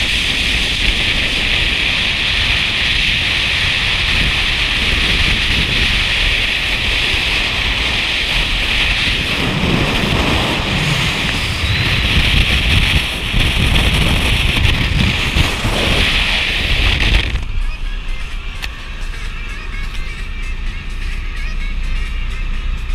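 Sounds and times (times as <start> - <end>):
wind rushing over microphone: 0.0 - 20.3
car road and engine rumble: 0.0 - 22.9.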